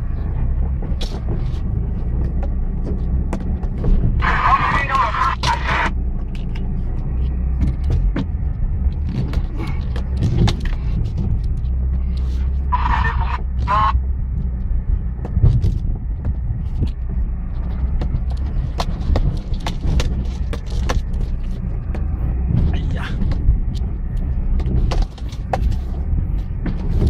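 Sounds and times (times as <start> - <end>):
car engine running low: 0.0 - 27.0
knocks and rattles over rocks: 0.7 - 5.3, 7.4 - 12.2, 14.4 - 27.0.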